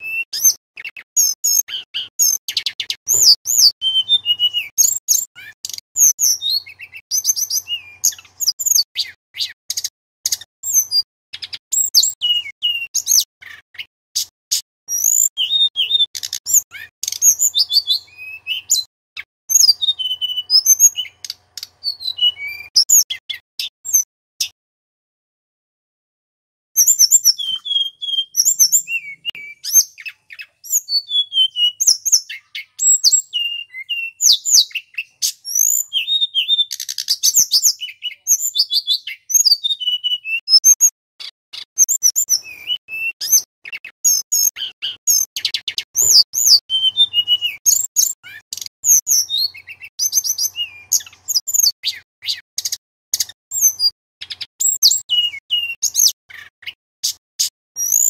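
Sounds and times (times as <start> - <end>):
bird singing whistled notes: 0.0 - 24.6, 26.8 - 58.0.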